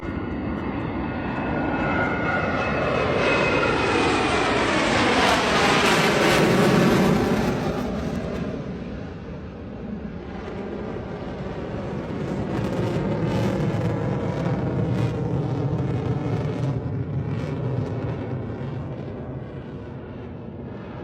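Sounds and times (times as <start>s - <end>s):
jet flying past: 0.0s - 21.0s.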